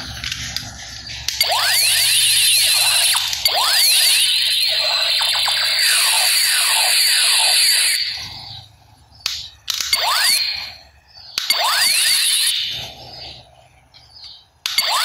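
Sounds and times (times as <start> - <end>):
toy gun electronic sound effect: 0.0 - 13.4, 14.6 - 15.0.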